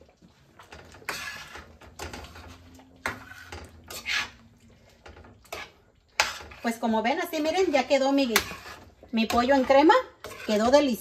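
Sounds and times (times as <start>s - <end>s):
spoon stirring sauce in metal pan: 0.0s - 11.0s.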